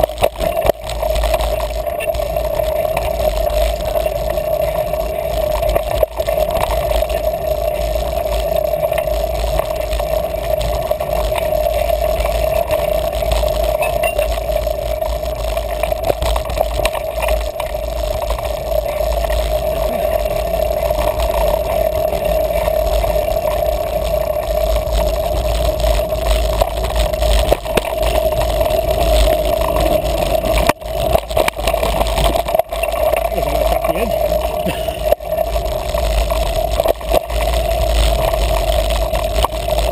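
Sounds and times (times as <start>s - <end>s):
bike rattling over bumps: 0.0s - 39.9s
mid-pitched hum: 0.0s - 39.9s
steady rushing noise: 0.0s - 39.9s.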